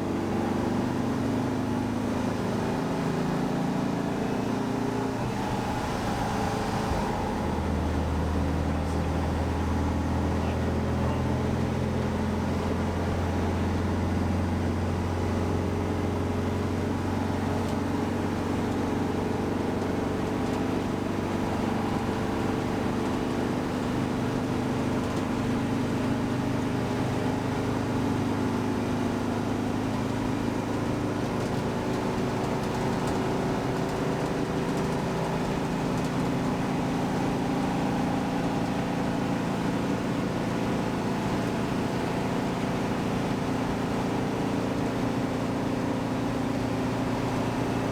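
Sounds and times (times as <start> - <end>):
car engine running steadily: 0.0 - 47.9.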